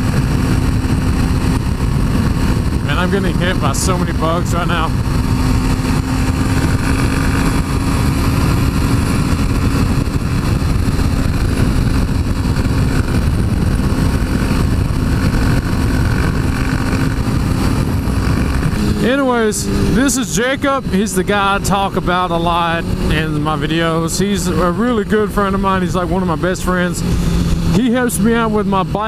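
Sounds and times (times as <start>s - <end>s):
motorcycle engine cruising: 0.0s - 29.0s
wind buffeting microphone: 0.0s - 29.0s.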